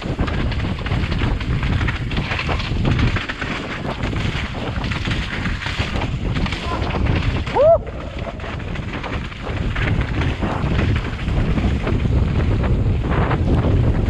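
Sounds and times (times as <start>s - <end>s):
mountain bike rattling and knocking: 0.0s - 14.0s
wind rushing over microphone: 0.0s - 14.0s.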